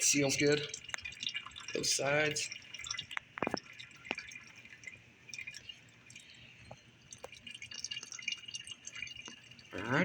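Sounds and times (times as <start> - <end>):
oil dripping into a pan: 0.0 - 10.0.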